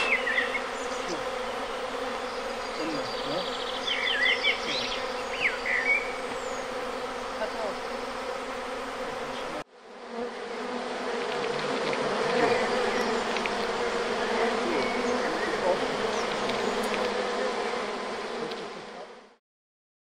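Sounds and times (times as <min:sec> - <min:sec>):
honeybee swarm buzzing: 0:00.0 - 0:19.4.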